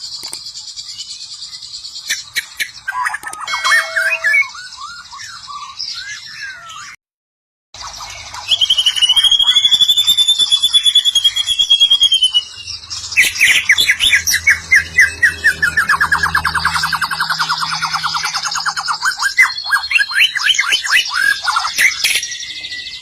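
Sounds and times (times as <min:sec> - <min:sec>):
songbird singing trills: 0:00.0 - 0:07.0, 0:07.8 - 0:23.0.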